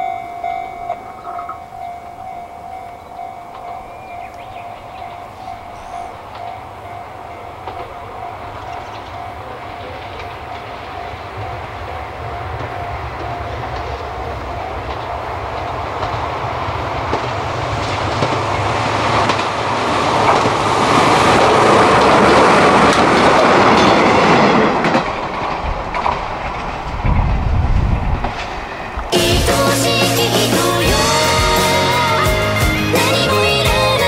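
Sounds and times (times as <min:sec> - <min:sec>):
wheels clattering over rail joints: 0:00.4 - 0:29.2.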